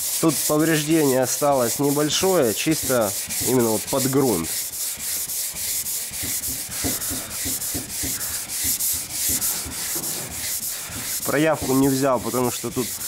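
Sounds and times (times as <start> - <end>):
sanding block rubbing: 0.0 - 13.0.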